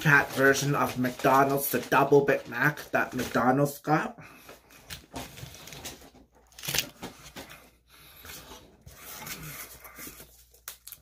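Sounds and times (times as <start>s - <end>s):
paper wrapper rustling: 0.0s - 3.6s, 4.8s - 11.0s.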